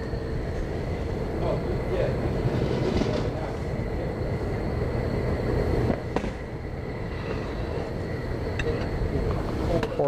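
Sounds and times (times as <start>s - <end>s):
faint hum: 0.0s - 10.0s
low outdoor rumble: 0.0s - 10.0s.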